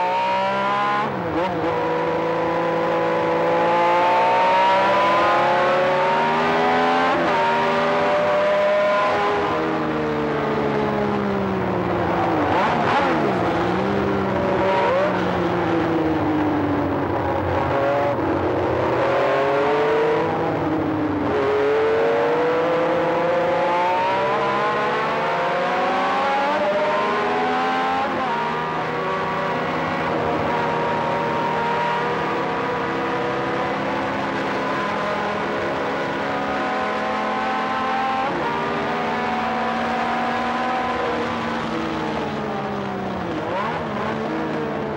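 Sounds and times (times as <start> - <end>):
racing car engine revving: 0.0 - 44.9.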